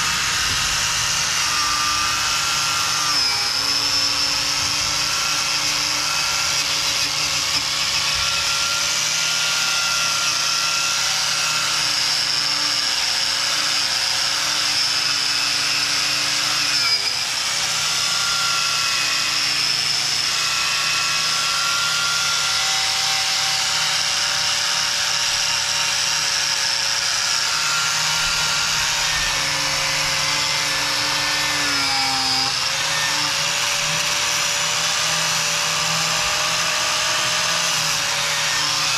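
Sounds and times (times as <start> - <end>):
angle grinder with wire brush: 0.0 - 38.9.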